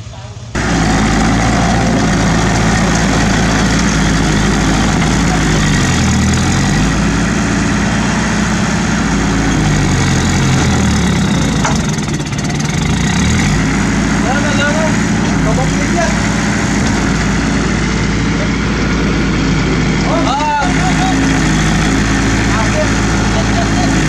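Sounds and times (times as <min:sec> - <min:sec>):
bulldozer diesel engine straining: 0:00.6 - 0:24.0.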